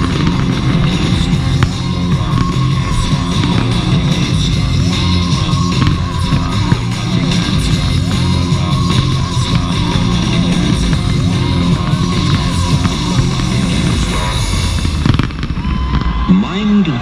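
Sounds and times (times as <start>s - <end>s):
loud rock music with electric guitar: 0.0s - 16.2s
fireworks bursting: 0.0s - 16.8s.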